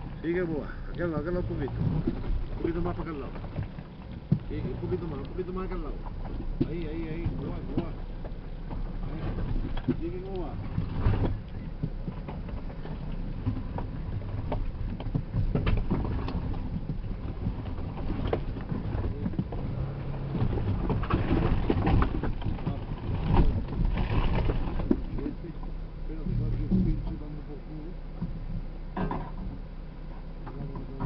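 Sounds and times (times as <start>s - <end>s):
vehicle engine rumbling low: 0.0s - 31.0s.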